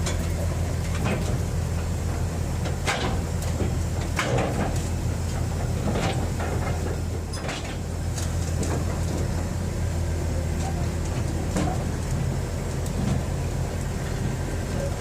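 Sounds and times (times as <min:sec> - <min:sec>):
heavy machine engine running: 0:00.0 - 0:15.0.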